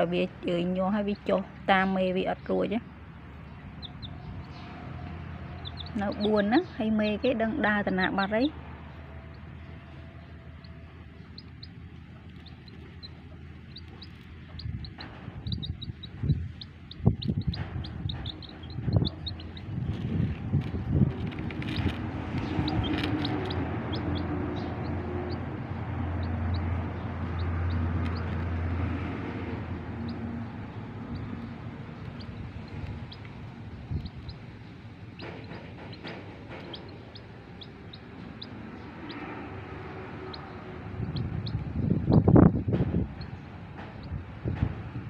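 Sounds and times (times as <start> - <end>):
chicks peeping: 0.1 - 45.0.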